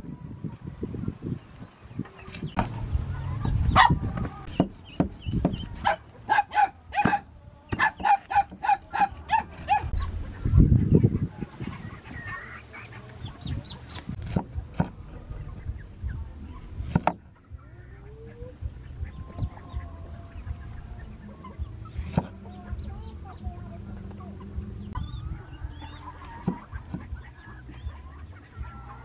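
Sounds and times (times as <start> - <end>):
poultry clucking: 1.0 - 29.0.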